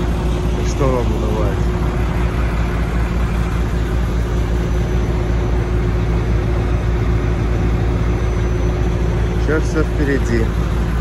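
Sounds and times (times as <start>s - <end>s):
road noise: 0.0s - 11.0s
truck diesel engine drone: 0.0s - 11.0s.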